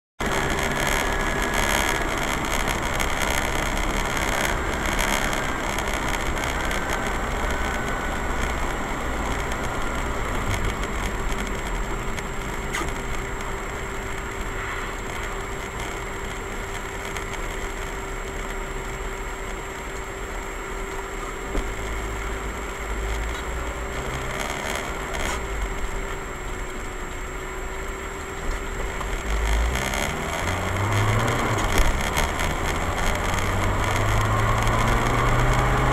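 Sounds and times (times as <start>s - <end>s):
car cabin engine and road noise: 0.2s - 35.9s.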